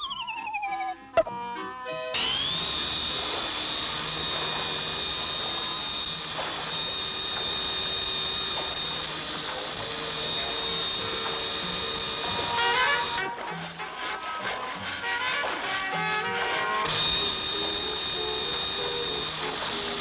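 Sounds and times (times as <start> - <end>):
cartoon engine whine: 0.0 - 20.0.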